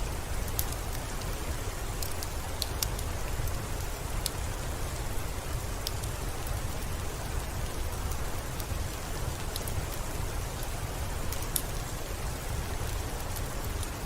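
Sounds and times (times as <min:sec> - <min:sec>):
rain on a window: 0:00.0 - 0:14.0
rain ticks: 0:00.3 - 0:14.0.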